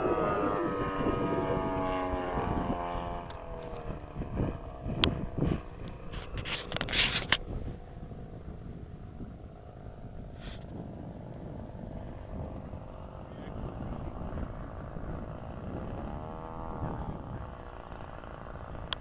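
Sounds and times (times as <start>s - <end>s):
model airplane engine: 0.0s - 19.0s
wind buffeting microphone: 0.0s - 19.0s.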